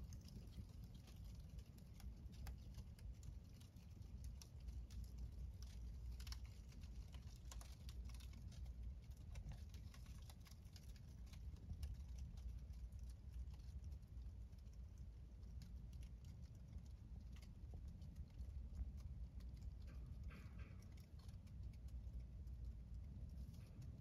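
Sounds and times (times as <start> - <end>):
fire crackling and popping: 0.0 - 24.0
low fire rumble: 0.0 - 24.0.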